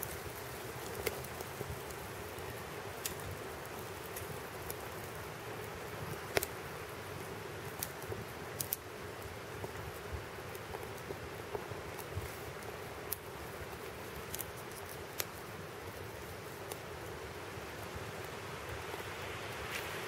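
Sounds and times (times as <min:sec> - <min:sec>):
wood crackling and popping: 0:00.0 - 0:20.0.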